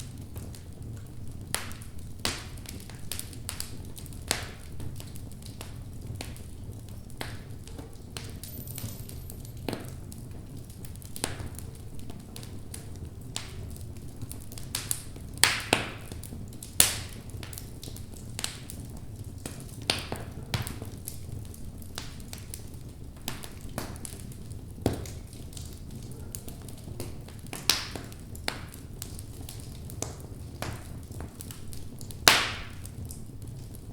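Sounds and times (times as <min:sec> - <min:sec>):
logs crackling in fireplace: 0:00.0 - 0:33.9
low rumble of flames: 0:00.0 - 0:33.9.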